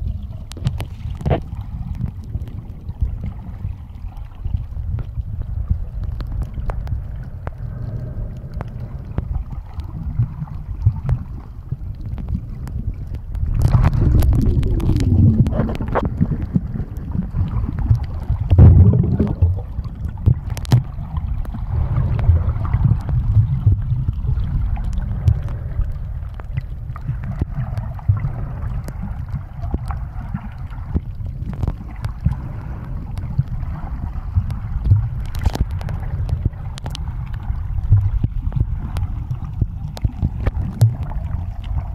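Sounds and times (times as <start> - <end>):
underwater rumble of moving water: 0.0 - 41.9.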